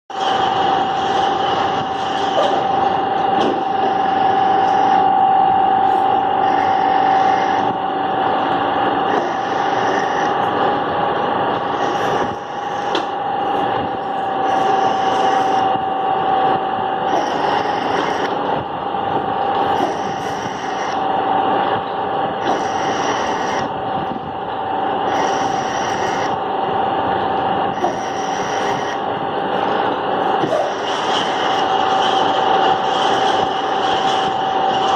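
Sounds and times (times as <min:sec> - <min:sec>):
harsh metal scraping: 0:00.1 - 0:34.9
lathe cutting noise: 0:00.1 - 0:34.9
metal lathe running: 0:00.1 - 0:34.9.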